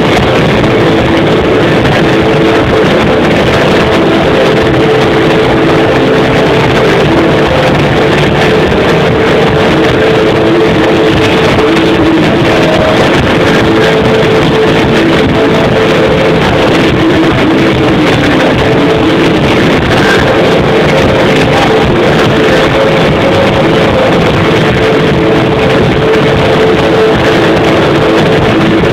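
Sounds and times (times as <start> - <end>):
distorted live rock band: 0.0 - 28.9.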